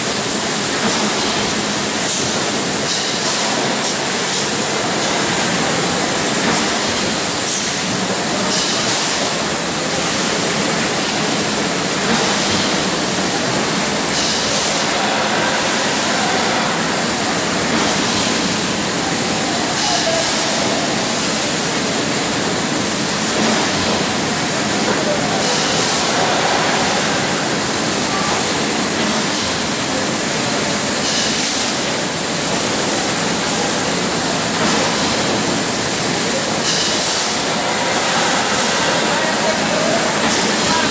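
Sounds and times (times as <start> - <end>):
bottling machinery rushing: 0.0 - 40.9.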